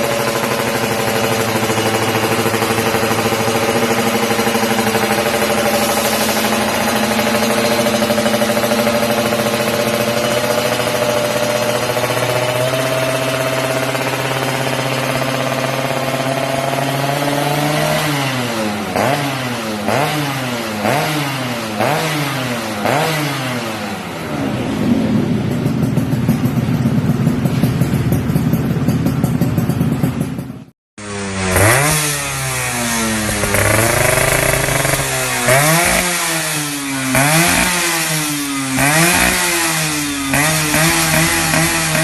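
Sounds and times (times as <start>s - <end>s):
engine revving: 0.0s - 26.9s, 31.0s - 42.0s
two-stroke motorcycle engine running: 0.0s - 42.0s.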